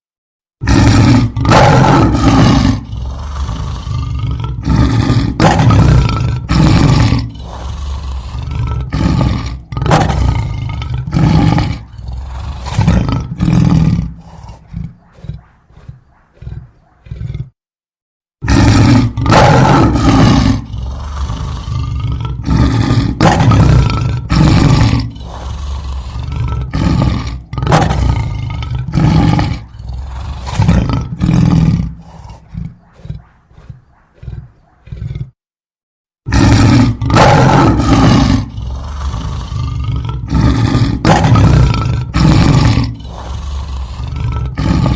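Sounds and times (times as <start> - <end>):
lion grunts: 0.6 - 17.6, 18.4 - 35.4, 36.3 - 44.9
lion roaring: 0.6 - 17.6, 18.4 - 35.4, 36.3 - 44.9.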